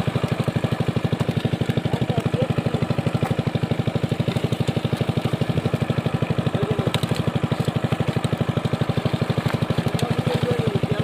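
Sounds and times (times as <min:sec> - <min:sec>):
engine chugging steadily: 0:00.0 - 0:11.0.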